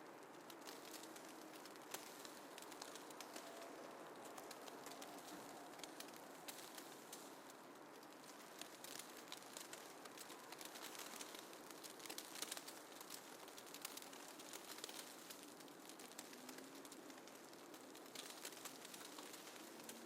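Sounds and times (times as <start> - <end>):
light crackling ticks: 0.0 - 20.0.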